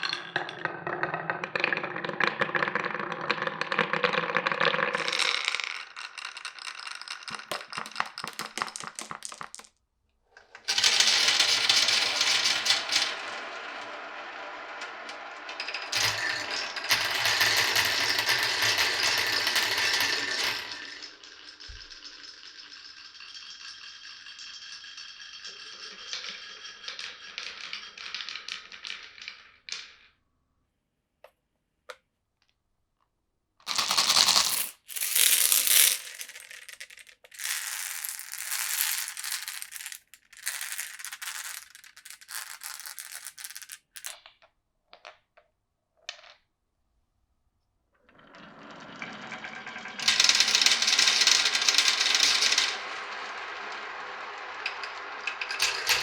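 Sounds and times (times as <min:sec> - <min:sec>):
marbles clicking on track: 0:00.0 - 0:09.7, 0:10.5 - 0:30.1, 0:33.7 - 0:45.2, 0:48.3 - 0:56.0
marbles rolling down wooden run: 0:00.0 - 0:09.8, 0:10.6 - 0:30.2, 0:33.7 - 0:45.2, 0:48.1 - 0:56.0.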